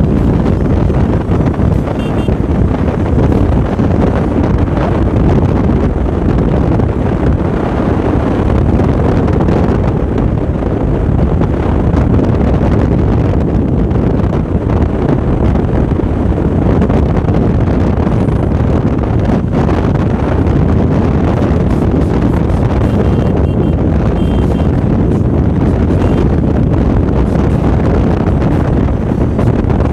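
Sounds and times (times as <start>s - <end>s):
motorcycle noise: 0.0s - 29.9s
wind rush on microphone: 0.0s - 29.9s.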